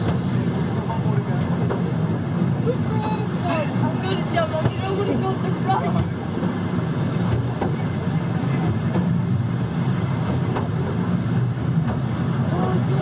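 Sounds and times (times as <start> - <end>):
railway carriage rumbling: 0.0 - 13.0.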